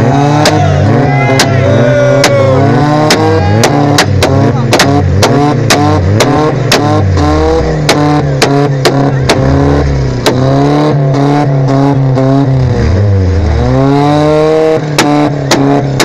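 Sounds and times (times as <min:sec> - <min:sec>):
car engine revving: 0:00.0 - 0:16.0
exhaust bangs: 0:00.0 - 0:16.0.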